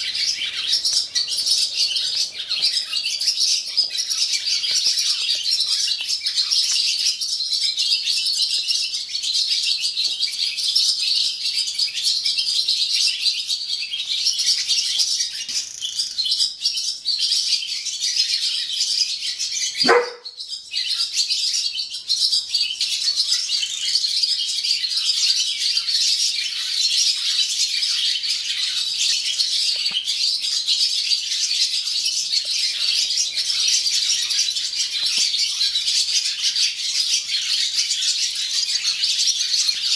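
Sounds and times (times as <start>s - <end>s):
swallows twittering: 0.0s - 13.2s, 13.8s - 39.9s.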